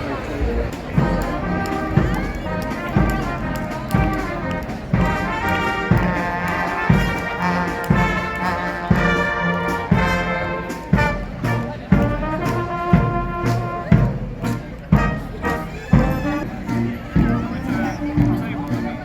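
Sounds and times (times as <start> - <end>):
low drum beat: 0.2 - 19.0
trumpets and trombones holding chords: 1.0 - 19.0.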